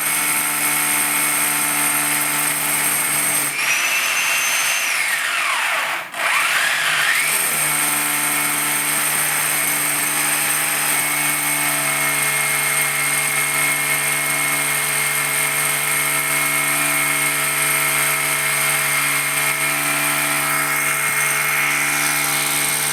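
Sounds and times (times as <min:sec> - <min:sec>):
electric drill running: 0:00.1 - 0:22.9.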